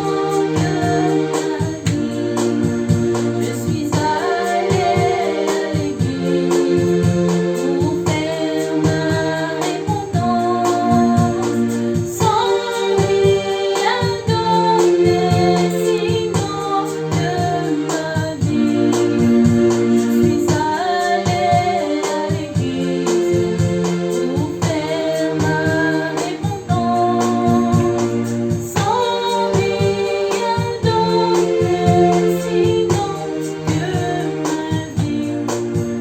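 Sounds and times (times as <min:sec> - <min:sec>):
keyboard accompaniment with beat: 0:00.0 - 0:36.0
woman singing gospel: 0:00.0 - 0:36.0.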